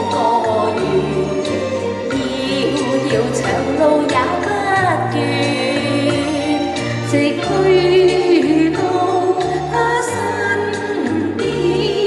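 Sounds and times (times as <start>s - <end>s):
music with steady bass line: 0.0s - 12.0s
women singing into microphones: 0.0s - 12.0s.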